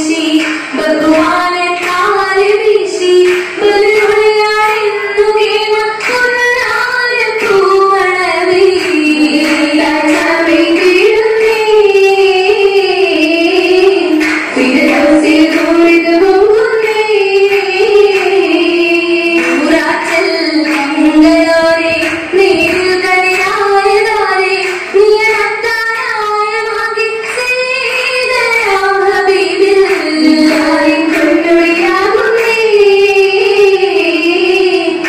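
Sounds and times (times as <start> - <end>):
girls singing: 0.0 - 35.0.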